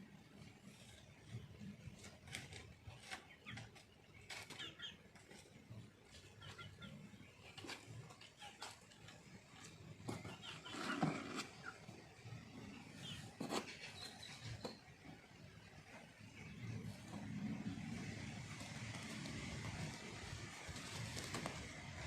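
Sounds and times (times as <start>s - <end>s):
chickens clucking: 0.6s - 22.0s.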